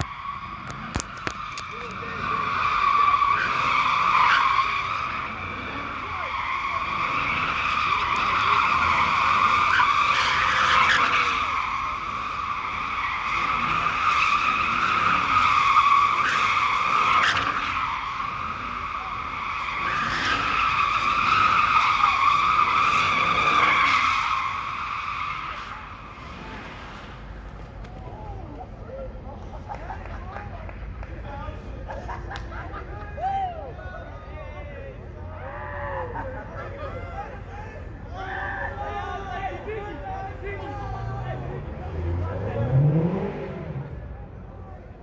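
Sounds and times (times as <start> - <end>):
car tyres squealing: 0.0 - 45.0.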